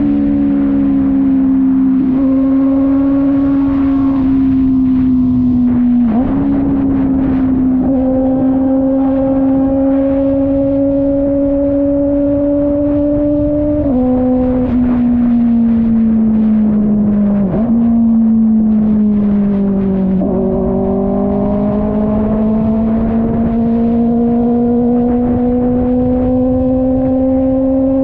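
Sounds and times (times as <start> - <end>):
motorcycle engine cruising: 0.0 - 28.0.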